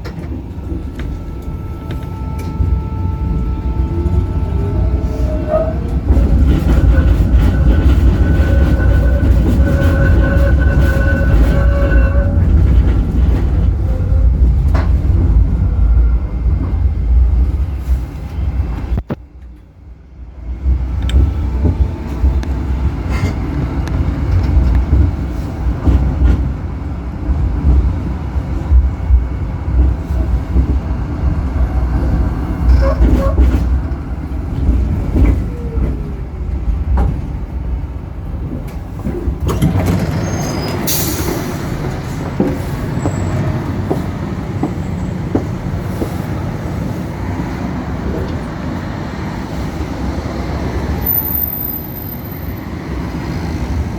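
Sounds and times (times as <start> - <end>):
tram rumble: 0.0 - 53.9.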